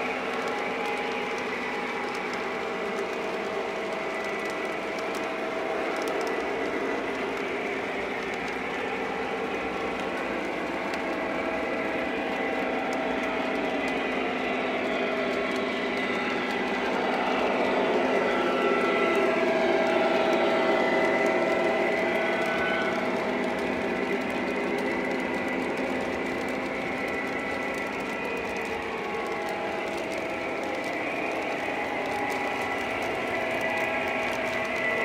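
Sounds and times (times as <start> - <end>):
model train wheels rumbling: 0.0 - 35.0.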